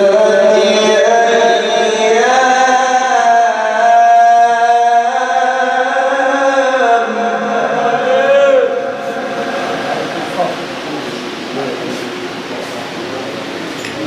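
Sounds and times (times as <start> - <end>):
man reciting melodically: 0.0 - 11.8.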